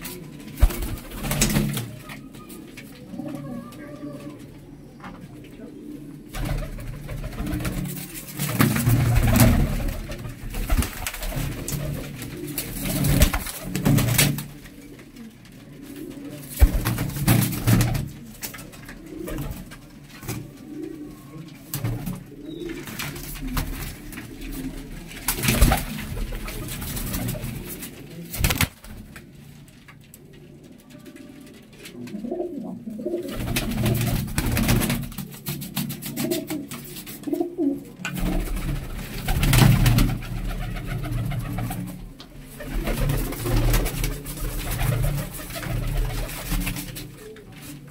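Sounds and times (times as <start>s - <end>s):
wings flapping: 0.0s - 4.5s, 6.3s - 21.0s, 21.6s - 32.2s, 33.0s - 47.9s
pigeons cooing: 0.0s - 29.4s, 30.2s - 47.9s.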